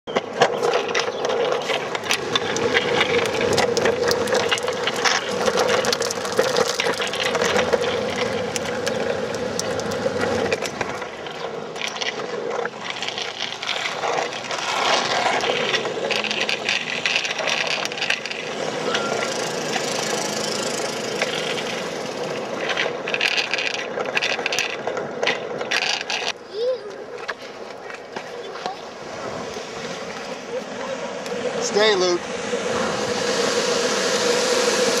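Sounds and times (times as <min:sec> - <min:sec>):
hard wheels rolling on asphalt: 0:00.1 - 0:35.0.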